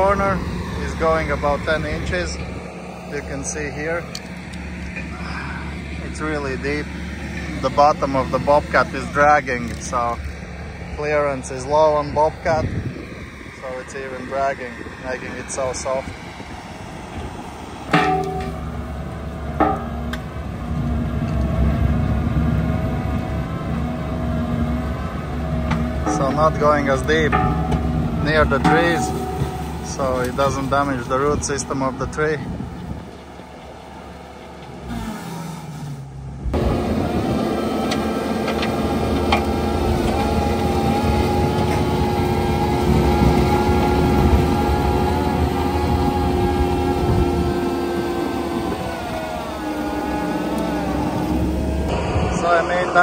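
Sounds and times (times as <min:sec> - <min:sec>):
loader engine hum: 0:00.0 - 0:53.0
mulcher rotor grinding stumps: 0:00.0 - 0:53.0.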